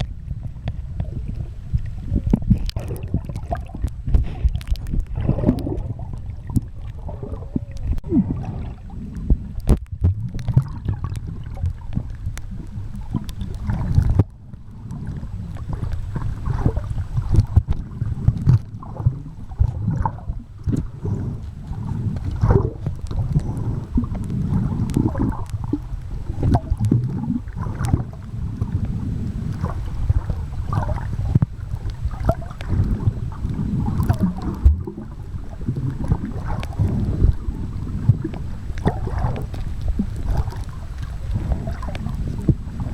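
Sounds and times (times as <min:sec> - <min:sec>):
water sloshing against microphone: 0:00.0 - 0:42.9.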